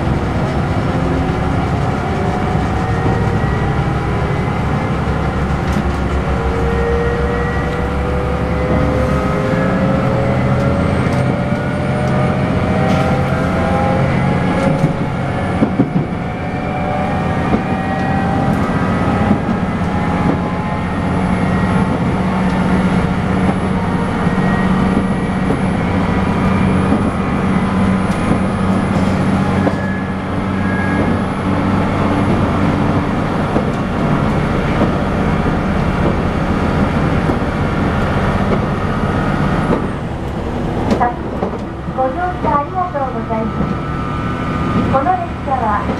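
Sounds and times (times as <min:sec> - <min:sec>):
train engine and wheels drone: 0:00.0 - 0:45.9.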